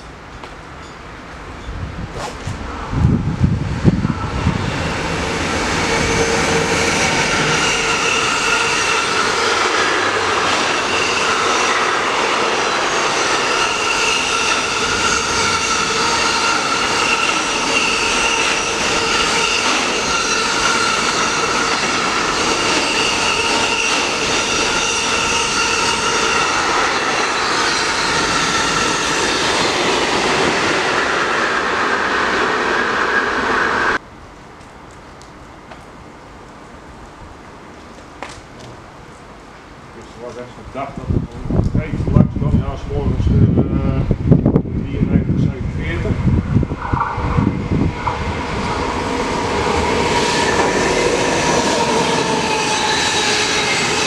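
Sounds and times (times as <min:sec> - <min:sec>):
freight train wheels on rails: 0:00.0 - 0:34.0, 0:34.6 - 0:54.0.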